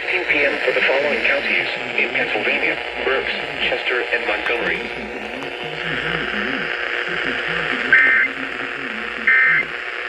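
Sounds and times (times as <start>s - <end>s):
buzzy digital data screeches: 0.0s - 9.9s
steady radio hiss: 0.0s - 10.0s.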